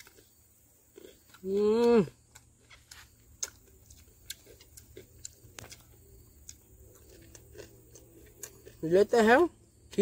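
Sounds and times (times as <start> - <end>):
person chewing crunchy food: 0.0 - 10.0.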